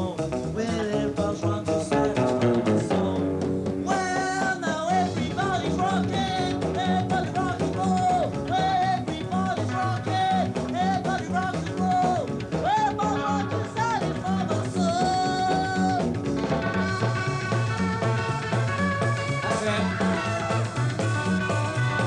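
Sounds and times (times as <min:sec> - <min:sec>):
person singing: 0:00.0 - 0:18.2, 0:19.2 - 0:22.0
band music with guitar: 0:00.0 - 0:22.0.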